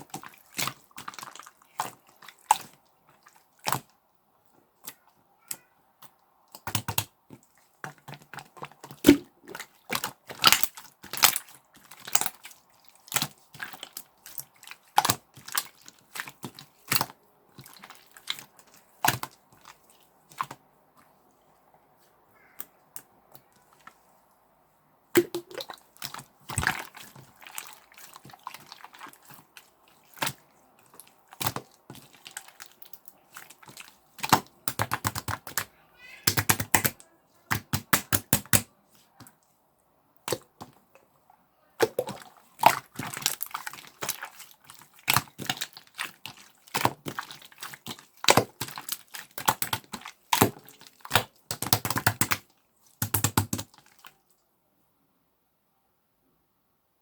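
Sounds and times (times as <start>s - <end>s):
slime squished by hand: 0.0s - 4.0s, 4.8s - 24.1s, 25.1s - 39.5s, 40.2s - 41.0s, 41.8s - 54.4s.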